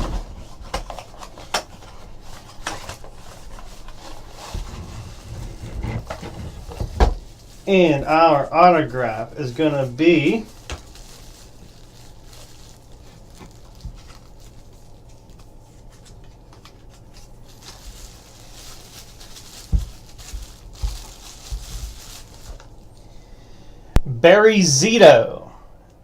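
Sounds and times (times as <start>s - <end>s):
packaging rustling: 0.0s - 23.0s.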